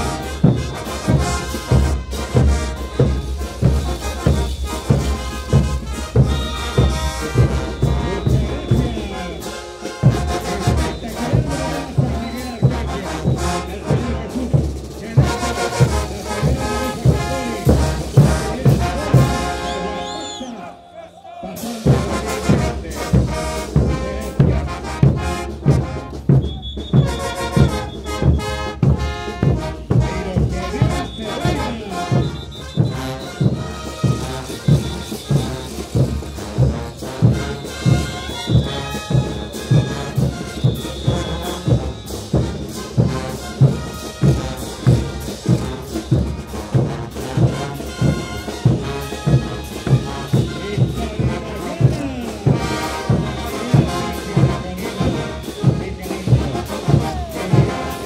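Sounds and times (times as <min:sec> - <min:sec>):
heavy drum beat: 0:00.0 - 0:20.0, 0:21.5 - 0:58.0
trumpets and trombones melody: 0:00.0 - 0:58.0.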